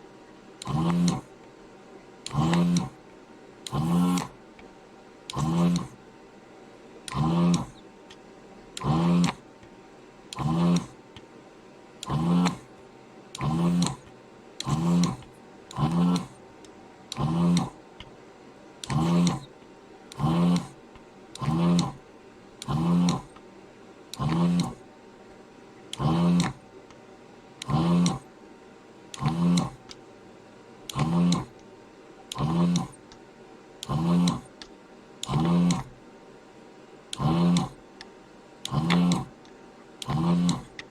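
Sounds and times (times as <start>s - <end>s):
vacuum pump buzzing: 0.0s - 4.6s, 5.2s - 6.1s, 6.8s - 11.3s, 12.0s - 24.9s, 25.8s - 27.0s, 27.6s - 28.3s, 29.0s - 30.0s, 30.8s - 33.2s, 33.8s - 36.0s, 37.0s - 38.0s, 38.6s - 40.9s.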